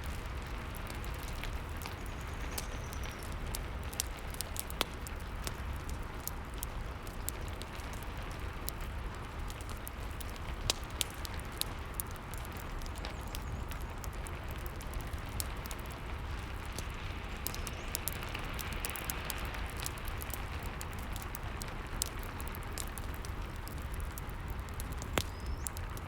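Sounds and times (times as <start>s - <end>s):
fireplace crackling: 0.0s - 26.0s
steady rain: 0.0s - 26.0s.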